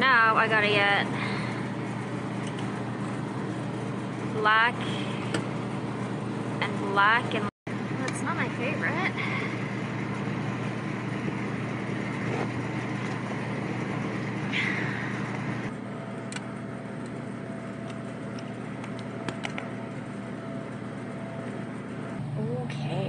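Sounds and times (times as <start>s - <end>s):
low equipment hum: 0.0s - 23.0s.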